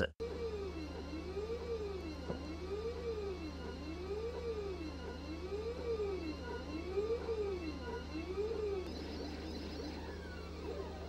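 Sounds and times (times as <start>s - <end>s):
stepper motors whining: 0.2s - 11.0s.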